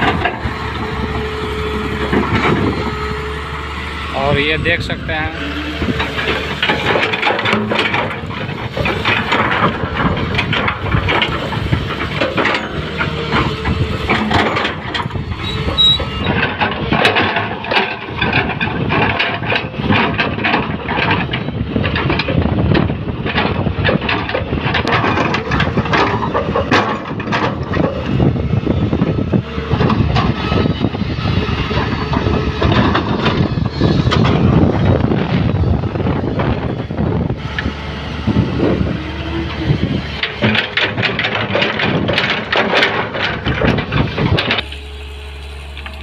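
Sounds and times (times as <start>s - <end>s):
clanks and rattles: 0.0s - 3.3s, 4.1s - 44.8s
excavator diesel engine: 0.0s - 46.0s.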